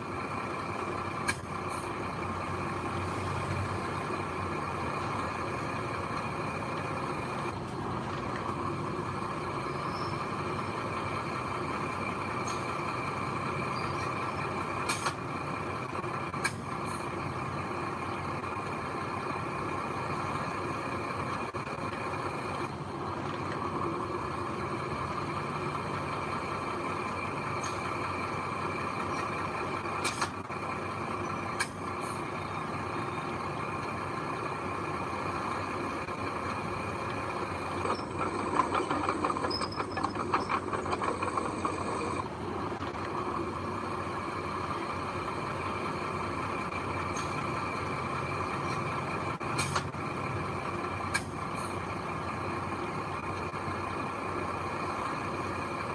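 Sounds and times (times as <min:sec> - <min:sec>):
diesel machinery running: 0:00.0 - 0:55.9.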